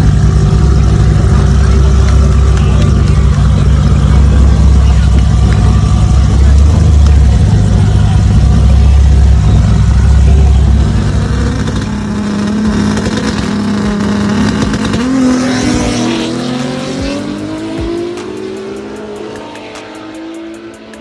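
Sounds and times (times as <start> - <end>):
drag race car engines roaring: 0.0 - 21.0.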